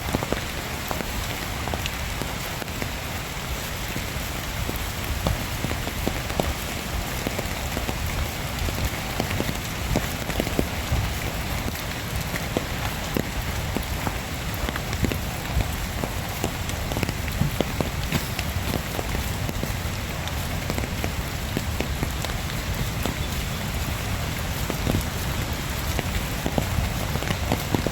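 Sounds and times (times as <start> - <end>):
heavy rain hiss: 0.0 - 27.9
raindrops tapping: 0.0 - 27.9.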